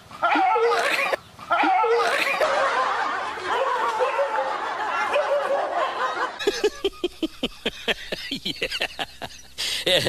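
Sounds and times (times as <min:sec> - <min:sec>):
people laughing and snickering: 0:00.2 - 0:10.0.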